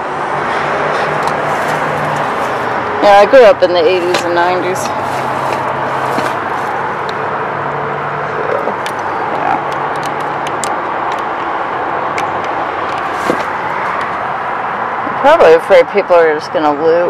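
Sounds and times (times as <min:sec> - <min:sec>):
low engine hum: 0:00.0 - 0:16.8
road traffic noise: 0:00.0 - 0:17.0.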